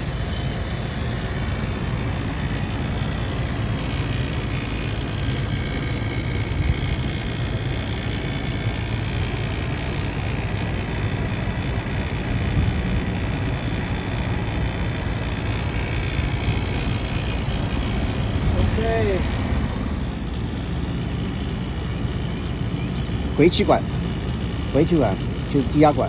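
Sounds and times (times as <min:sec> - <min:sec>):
fan air noise: 0:00.0 - 0:26.0
low hum of hvac unit: 0:00.0 - 0:26.0.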